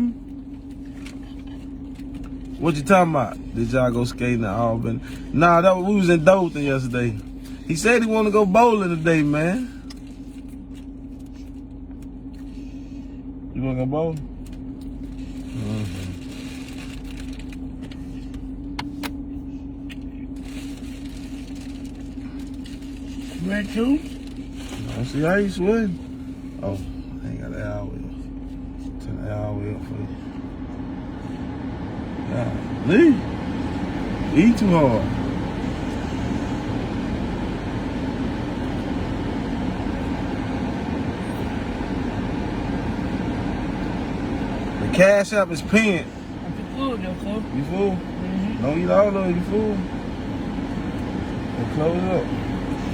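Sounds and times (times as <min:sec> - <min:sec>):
air conditioning fan: 0:00.0 - 0:52.9
car engine humming: 0:00.0 - 0:52.9.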